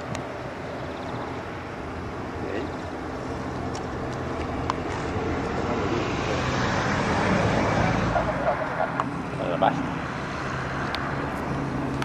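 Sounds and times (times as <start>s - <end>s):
propeller aircraft engine: 0.0s - 12.0s.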